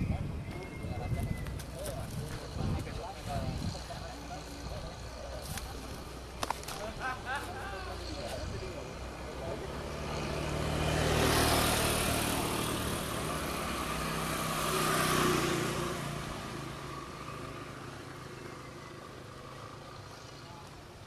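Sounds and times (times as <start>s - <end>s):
motorcycles passing by: 0.0s - 21.0s.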